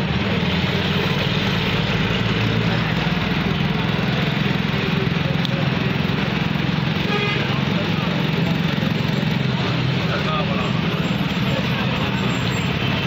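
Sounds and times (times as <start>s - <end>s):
road noise hiss: 0.0s - 13.0s
vehicle engine running: 0.0s - 13.0s.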